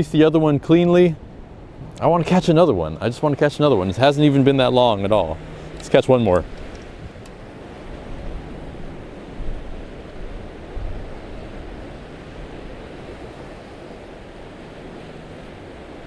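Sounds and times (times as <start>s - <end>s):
ocean surf against rocks: 0.0s - 16.0s
wind buffeting microphone: 0.0s - 16.0s.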